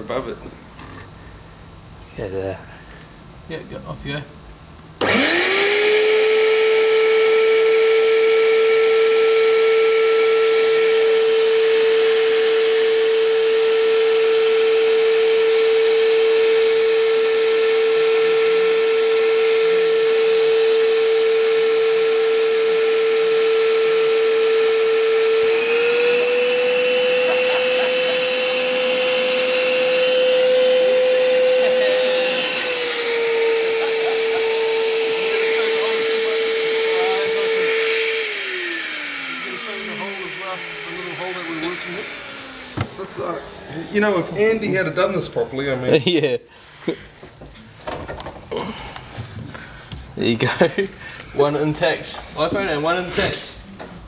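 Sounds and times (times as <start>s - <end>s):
vacuum cleaner high whine: 5.0s - 54.0s.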